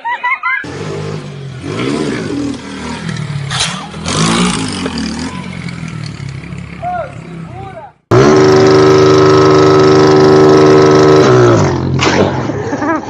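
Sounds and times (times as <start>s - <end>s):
motorcycle engine revving: 0.6s - 12.5s.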